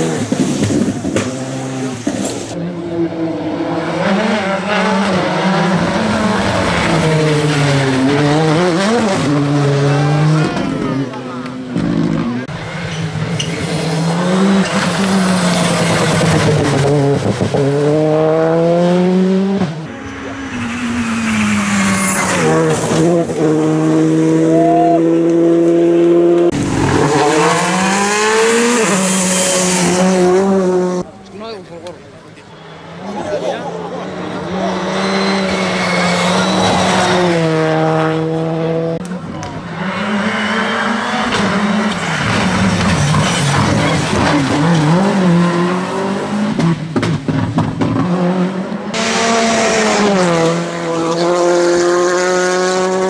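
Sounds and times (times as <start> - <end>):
rally car accelerating: 0.0 - 53.0
rally car engine revving: 0.0 - 53.0.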